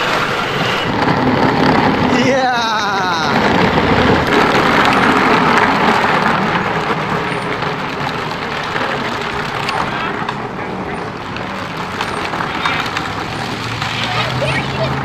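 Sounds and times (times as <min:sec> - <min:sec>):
plastic wheels rolling: 0:00.0 - 0:15.0.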